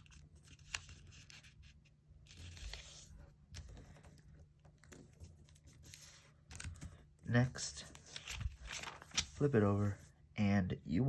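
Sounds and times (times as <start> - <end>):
paper rustling and crinkling: 0.0 - 7.0, 7.6 - 10.1.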